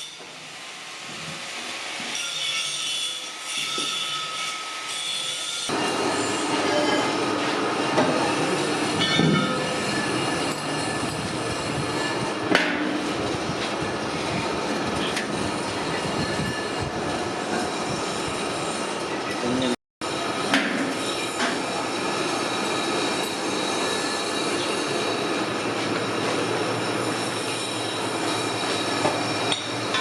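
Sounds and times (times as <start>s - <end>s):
metal-on-metal screeching and scraping: 2.0s - 30.0s.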